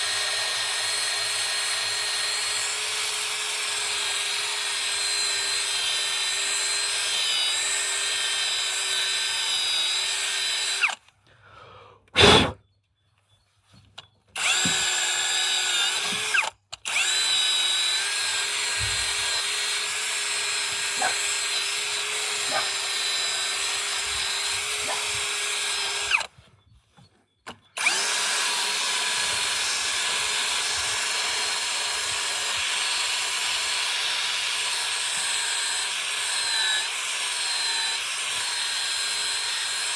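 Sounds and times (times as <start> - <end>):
electric power tool whining: 0.0 - 11.1, 14.0 - 26.3, 27.5 - 39.9.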